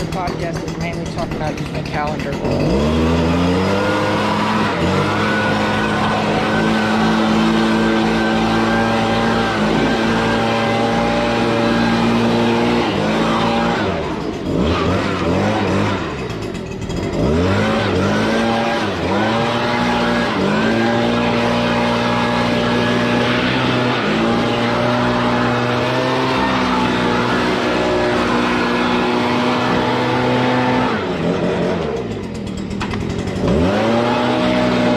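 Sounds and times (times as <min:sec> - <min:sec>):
riding lawn mower engine running: 0:00.0 - 0:34.9.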